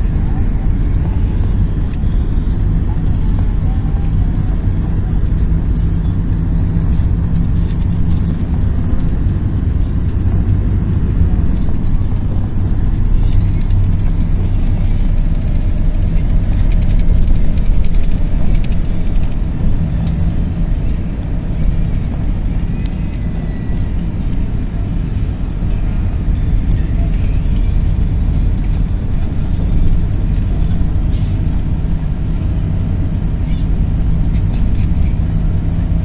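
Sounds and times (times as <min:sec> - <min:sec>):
bus engine and road rumble: 0:00.0 - 0:36.0.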